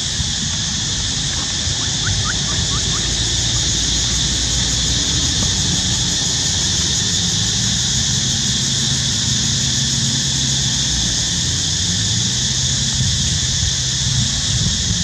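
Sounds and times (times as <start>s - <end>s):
constant high hiss: 0.0s - 15.0s.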